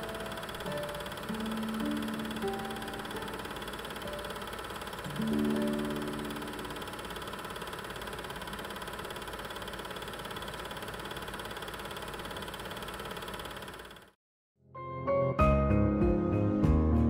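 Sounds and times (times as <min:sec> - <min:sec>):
small machine whirring: 0:00.0 - 0:14.2.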